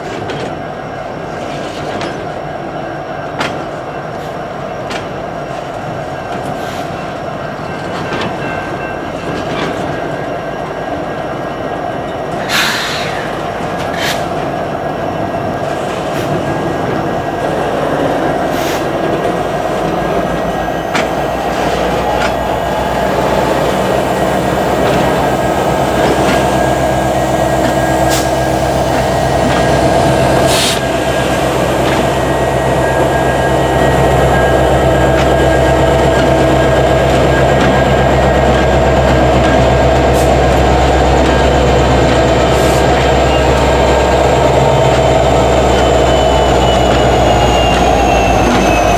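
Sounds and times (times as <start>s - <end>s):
diesel locomotive engine rumbling: 0.0s - 48.9s.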